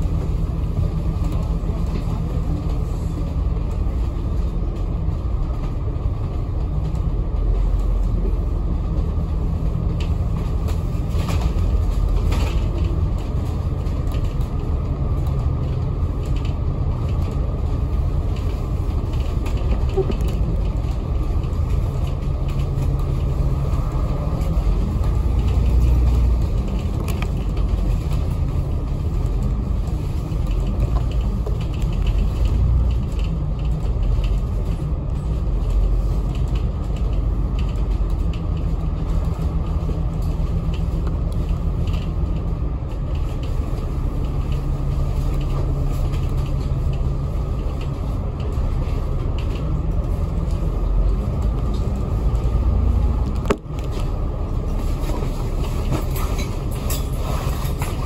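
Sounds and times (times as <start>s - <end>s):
bus engine rumble: 0.0s - 58.0s
creaks and rattles: 0.0s - 58.0s.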